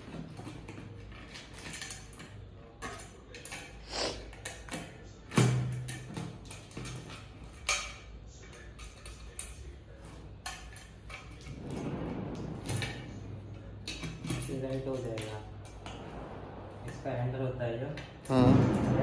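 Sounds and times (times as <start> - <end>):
metal chair parts clinking: 0.0 - 16.3.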